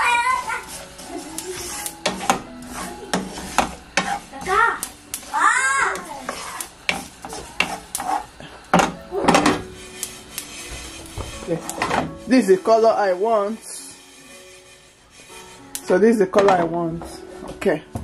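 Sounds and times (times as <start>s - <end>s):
spatula scraping a pan: 0.0s - 17.8s.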